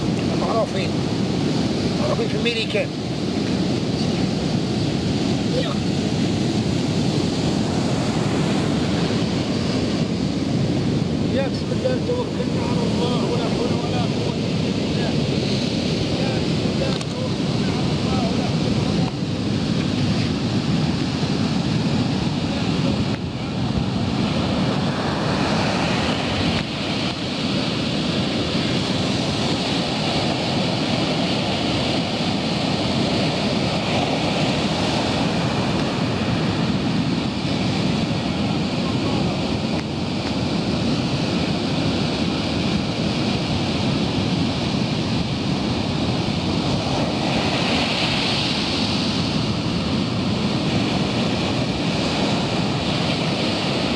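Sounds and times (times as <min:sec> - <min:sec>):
surf breaking on sandy beach: 0:00.0 - 0:53.9
wind buffeting microphone: 0:00.0 - 0:53.9.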